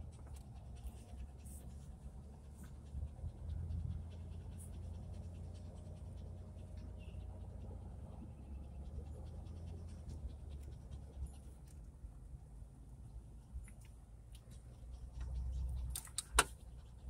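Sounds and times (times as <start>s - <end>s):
car driving on paved road: 0.0s - 17.0s.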